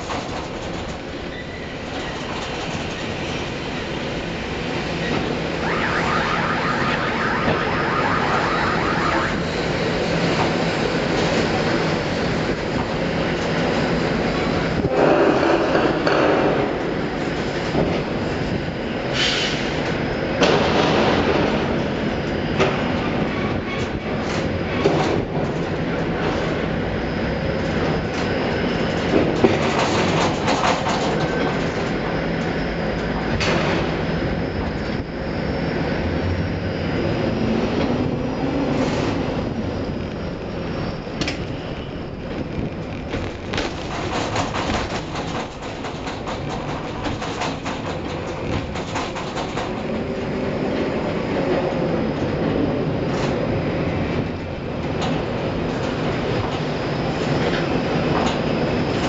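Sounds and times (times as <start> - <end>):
crane machinery rumble: 0.0 - 59.0.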